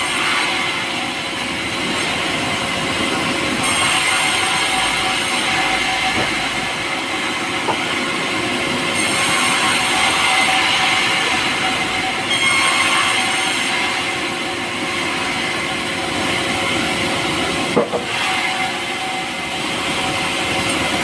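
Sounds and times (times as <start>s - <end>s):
power saw cutting wood: 0.0s - 21.0s.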